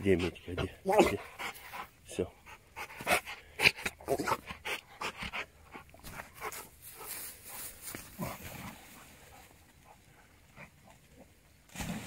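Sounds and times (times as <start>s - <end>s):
dog panting: 0.0s - 11.2s.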